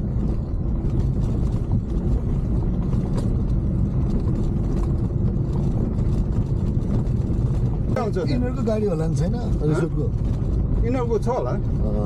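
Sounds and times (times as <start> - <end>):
vehicle rumbling on gravel: 0.0 - 12.0.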